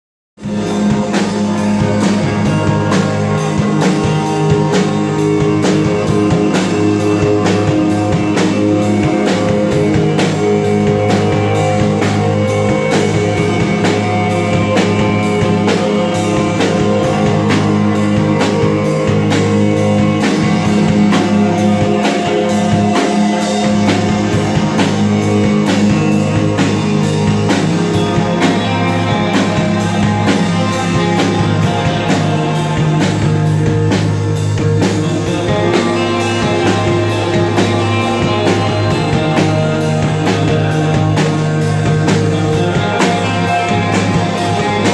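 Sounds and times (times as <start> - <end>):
drum kit keeping a steady beat: 0.4 - 44.9
electric bass: 0.4 - 44.9
electric guitars: 0.4 - 44.9.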